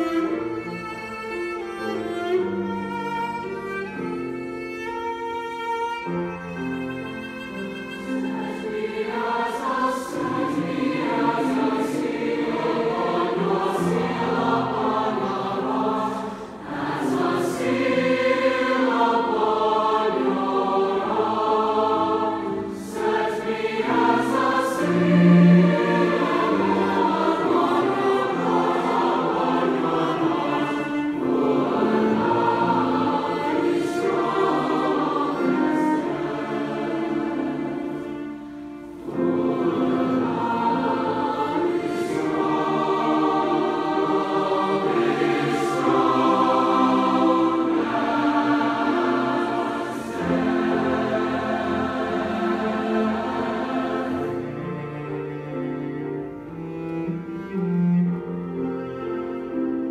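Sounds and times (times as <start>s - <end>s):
large choir singing: 0.0s - 4.0s, 6.4s - 59.9s
cello: 0.0s - 59.9s.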